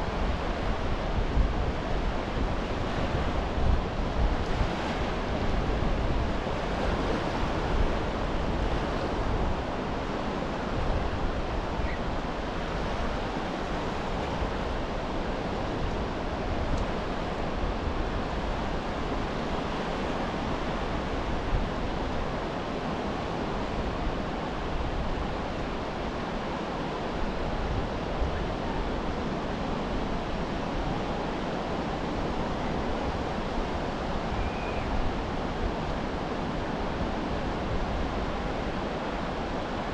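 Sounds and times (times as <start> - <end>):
waves washing onto beach: 0.0 - 39.9
wind rumble on microphone: 0.0 - 39.9.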